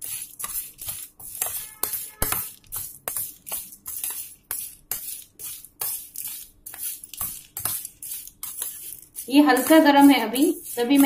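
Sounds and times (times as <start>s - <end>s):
spoon scraping a steel plate: 0.0s - 11.0s.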